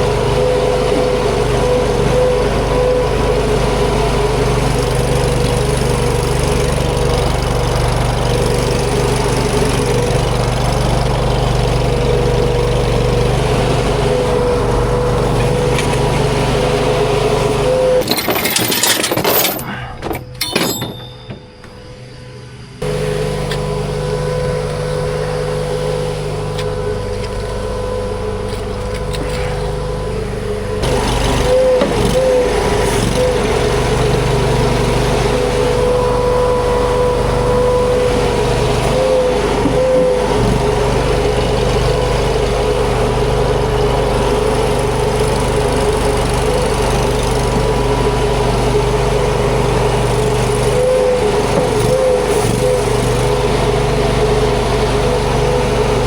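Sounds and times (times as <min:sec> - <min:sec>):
skid steer engine drone with whine: 0:00.0 - 0:56.0.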